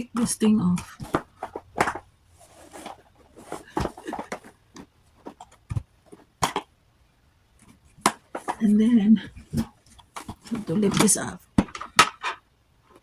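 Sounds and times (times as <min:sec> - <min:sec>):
plastic parts clicking and rattling: 0:00.1 - 0:06.7, 0:07.6 - 0:13.0.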